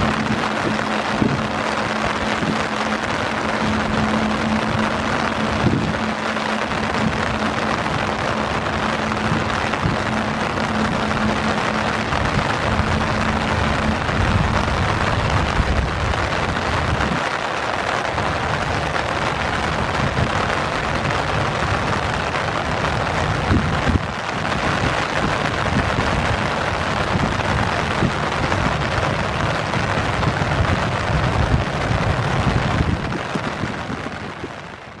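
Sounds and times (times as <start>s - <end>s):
faint steady hum: 0.0s - 35.0s
heavy rain pouring: 0.0s - 35.0s
low rumble: 0.0s - 35.0s.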